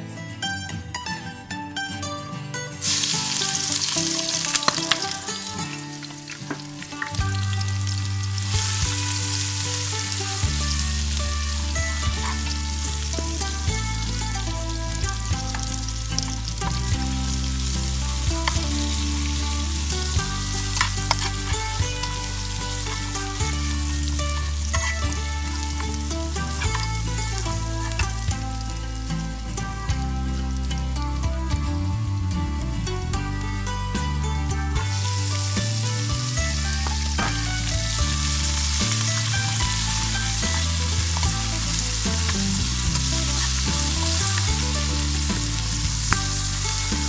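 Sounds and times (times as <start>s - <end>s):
background music with bass line: 0.0s - 47.0s
aromatics sizzling in hot oil: 2.8s - 29.6s, 34.9s - 47.0s.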